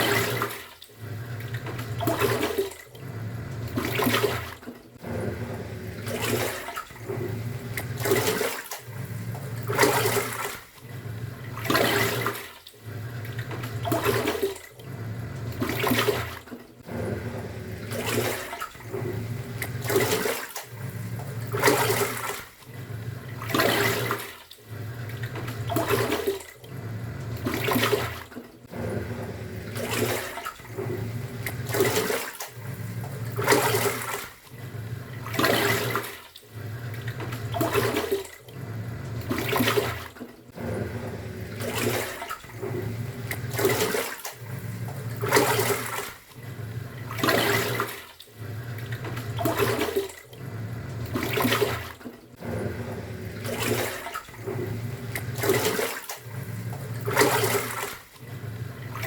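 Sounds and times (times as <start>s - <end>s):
washing machine churning water: 0.0s - 59.0s
low motor hum: 1.0s - 12.2s, 12.8s - 59.0s.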